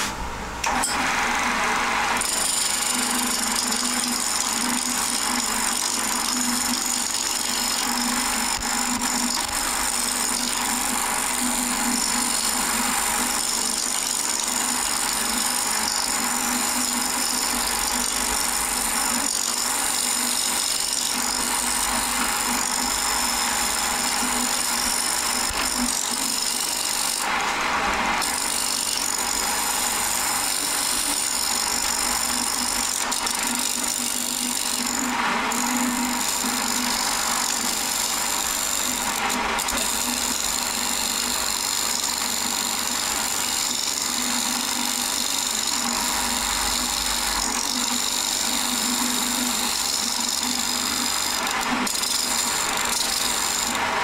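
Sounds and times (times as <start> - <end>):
lathe humming: 0.0 - 54.0.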